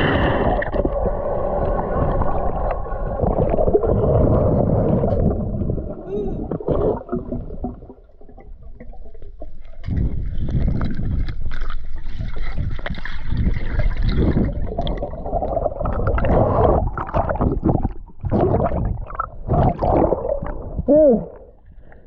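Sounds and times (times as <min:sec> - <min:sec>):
water splashing and gurgling: 0:00.0 - 0:22.0.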